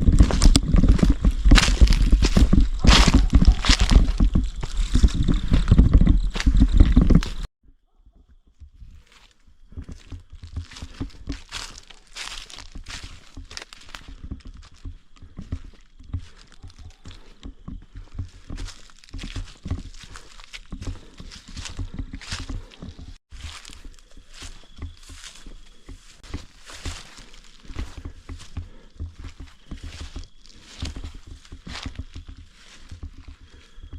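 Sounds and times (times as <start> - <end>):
footsteps crunching dry leaves: 0.0 - 7.5, 8.8 - 33.9.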